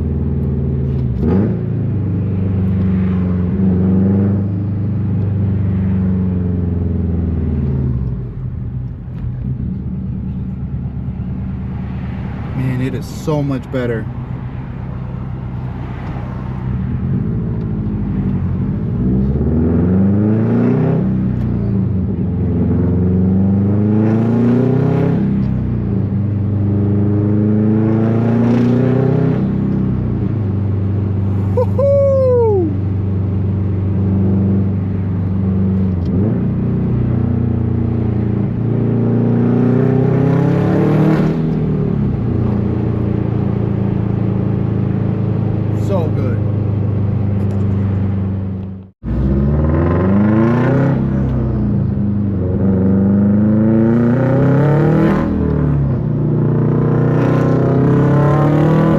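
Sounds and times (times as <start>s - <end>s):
car engine revving through exhaust: 0.0s - 8.6s, 15.7s - 31.6s, 33.1s - 58.9s.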